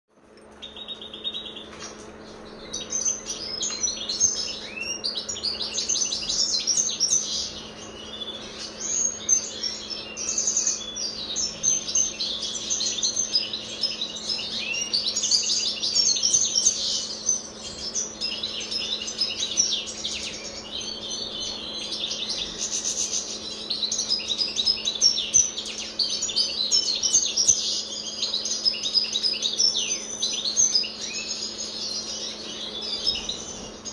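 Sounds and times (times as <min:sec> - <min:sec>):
goldfinch singing: 0:00.6 - 0:33.9.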